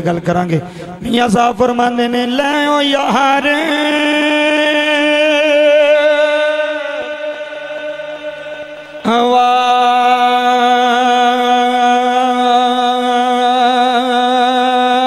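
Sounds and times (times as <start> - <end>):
man chanting in long held notes: 0.0 - 15.0.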